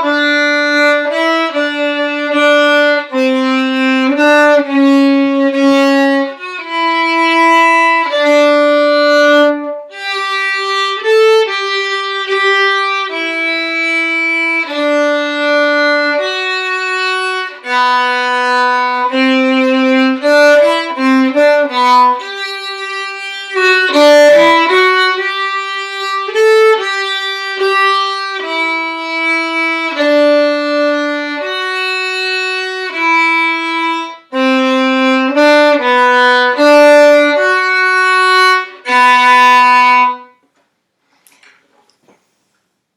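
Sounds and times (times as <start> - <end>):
violin melody: 0.0 - 40.4.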